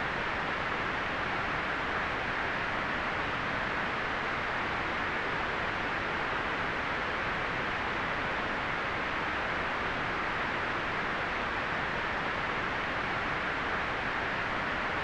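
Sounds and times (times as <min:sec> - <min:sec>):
white noise hiss: 0:00.0 - 0:15.0.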